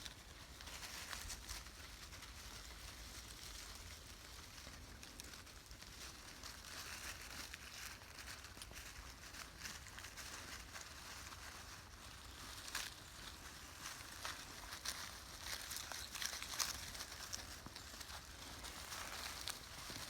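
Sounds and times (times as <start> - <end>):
animals rustling in dry leaves: 0.0 - 20.0.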